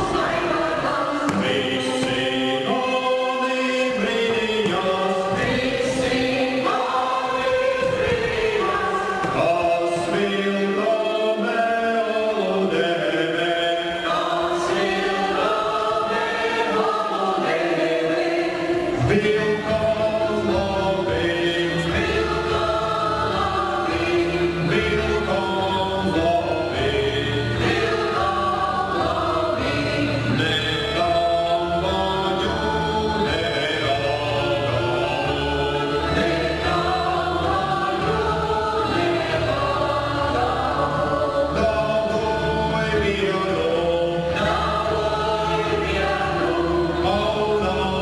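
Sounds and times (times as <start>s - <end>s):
choir singing: 0.0s - 48.0s
deep low voices singing: 0.0s - 48.0s.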